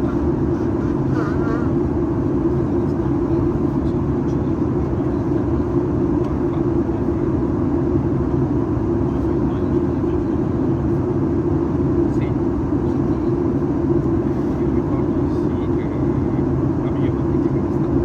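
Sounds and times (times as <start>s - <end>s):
airflow rushing in cabin: 0.0s - 18.0s
low engine hum: 0.0s - 18.0s.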